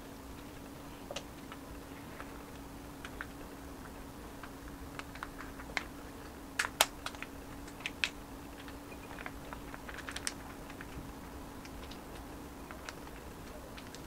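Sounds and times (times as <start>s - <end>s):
faint steady hum: 0.0s - 14.0s
rice paper crackling: 0.0s - 14.0s
hands wrapping rice paper clicks: 0.4s - 14.0s.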